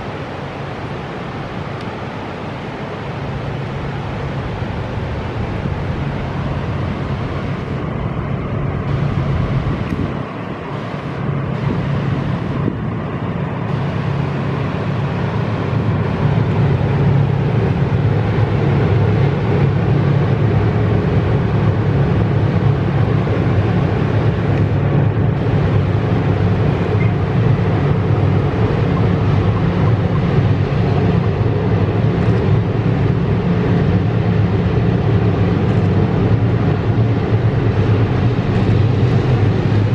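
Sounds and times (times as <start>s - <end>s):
locomotive engine drone: 0.0s - 39.9s.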